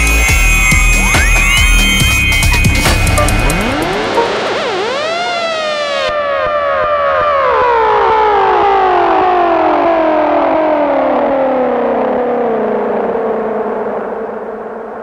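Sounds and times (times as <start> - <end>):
electronic siren falling sweeps: 0.0 - 15.0.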